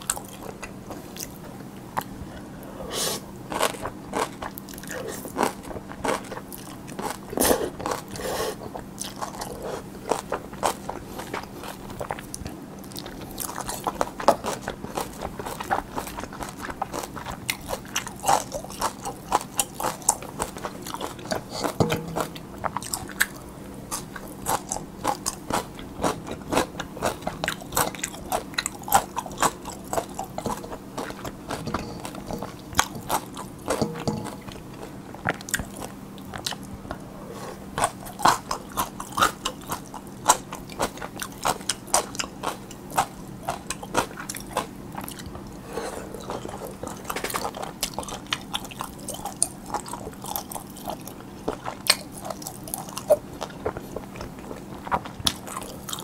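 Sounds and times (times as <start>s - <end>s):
chewing and crunching noodles: 0.0s - 2.5s, 3.1s - 56.0s.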